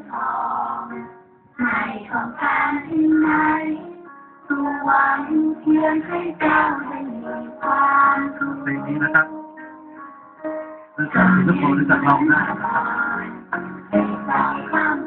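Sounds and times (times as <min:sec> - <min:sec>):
children singing together: 0:00.0 - 0:09.3, 0:11.0 - 0:15.0.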